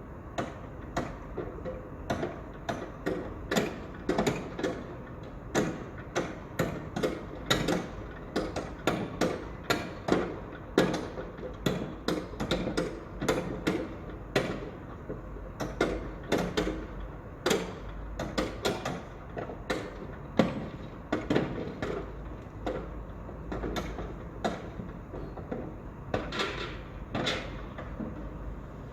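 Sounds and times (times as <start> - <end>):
construction knocks and clanks: 0.3 - 28.9.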